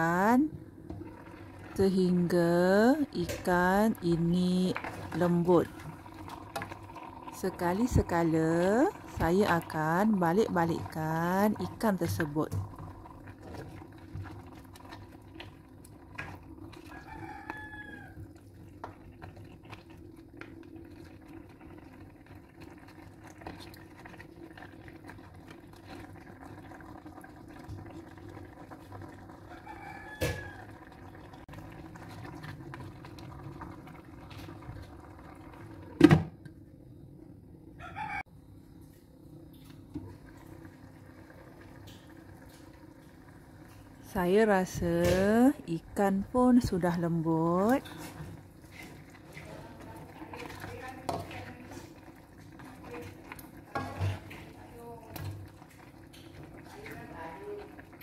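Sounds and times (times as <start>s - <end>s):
food bubbling in a wok: 0.0s - 58.0s.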